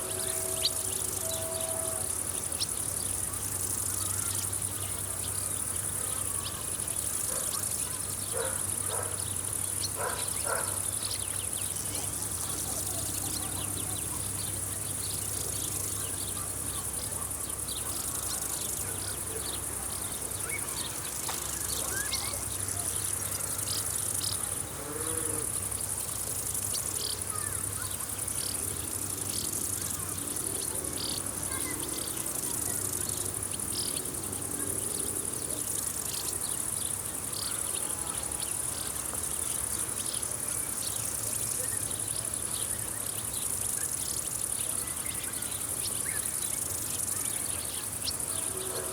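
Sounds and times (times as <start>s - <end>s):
short insect chirps: 0.0s - 48.6s
crickets trilling: 0.0s - 48.9s.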